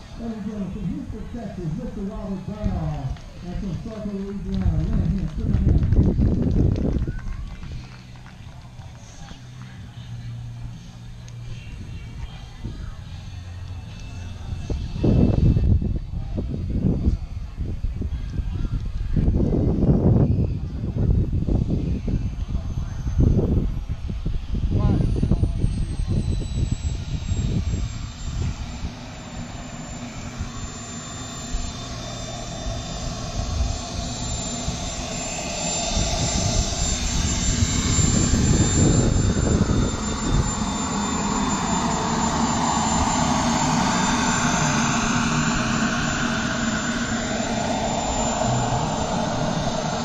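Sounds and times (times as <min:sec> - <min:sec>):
wind buffeting microphone: 0:00.0 - 0:08.5, 0:14.5 - 0:50.0
rising whine: 0:00.0 - 0:50.0
small jet turbine engine: 0:00.0 - 0:50.0.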